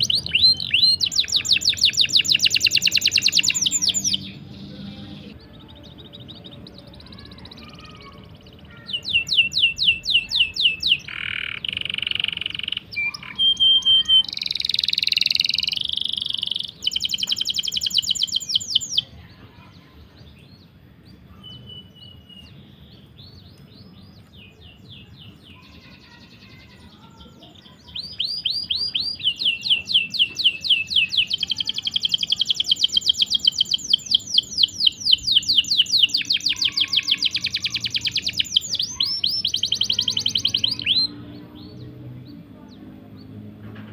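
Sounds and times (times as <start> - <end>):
songbird chirps and trills: 0.0 - 43.9.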